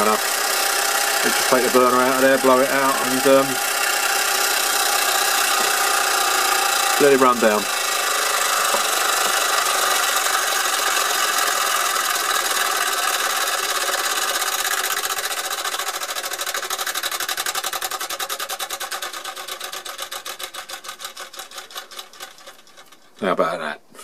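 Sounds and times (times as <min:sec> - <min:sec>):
toy steam engine chuffing: 0:00.0 - 0:23.4.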